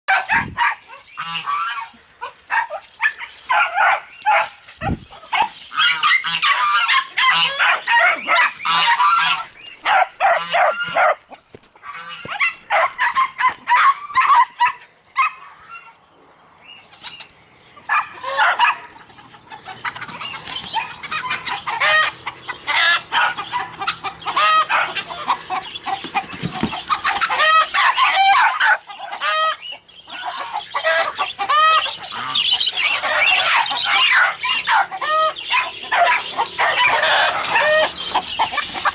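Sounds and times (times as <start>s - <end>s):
chickens clucking and squawking: 0.3s - 3.6s, 4.4s - 14.8s, 16.9s - 38.9s.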